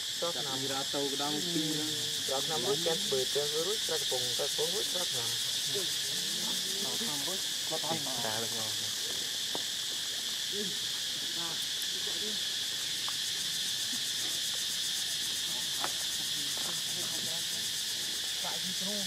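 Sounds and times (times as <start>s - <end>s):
insect chorus buzzing: 0.0s - 19.0s.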